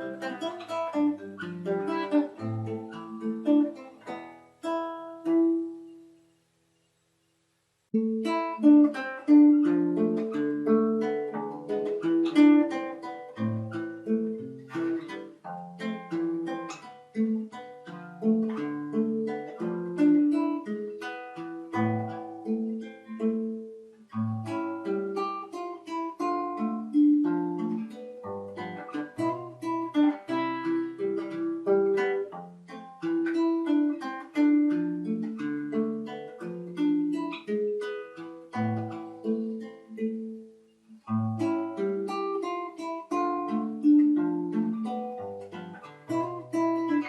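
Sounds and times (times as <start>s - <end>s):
plucked solo guitar: 0.0s - 6.0s, 8.0s - 47.0s.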